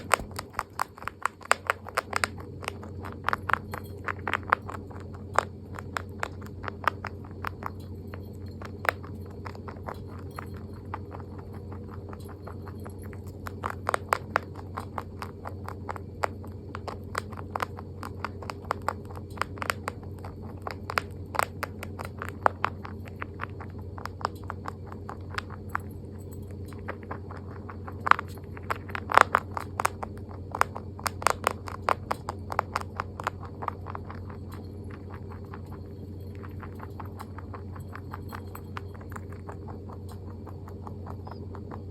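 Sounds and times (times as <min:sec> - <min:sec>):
rabbit chewing food: 0:00.0 - 0:41.9
steady low hum: 0:00.0 - 0:41.9.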